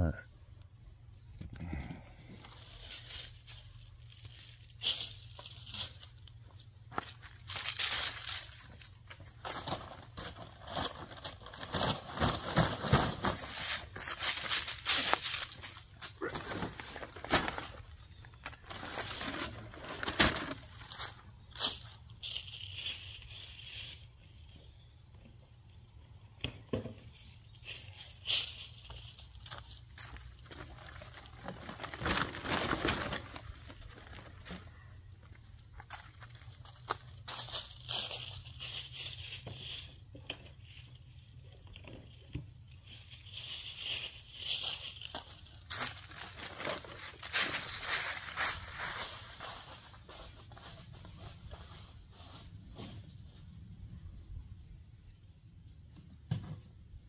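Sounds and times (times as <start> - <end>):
footsteps crunching dry leaves: 2.0 - 25.0, 26.9 - 53.1.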